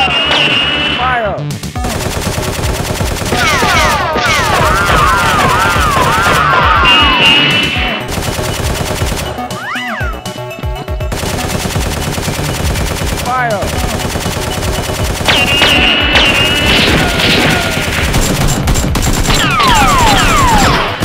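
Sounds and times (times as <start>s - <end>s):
rapid automatic gunfire: 1.8s - 7.1s, 7.8s - 9.6s, 11.1s - 21.0s.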